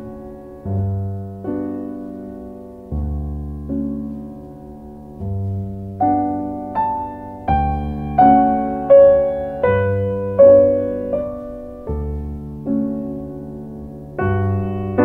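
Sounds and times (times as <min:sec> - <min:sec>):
slow piano notes: 0:00.0 - 0:15.0.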